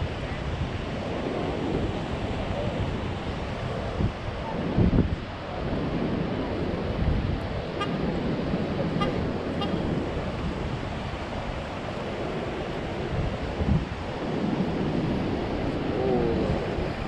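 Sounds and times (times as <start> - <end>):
ocean surf: 0.0 - 17.0
wind rumbling on microphone: 0.0 - 17.0.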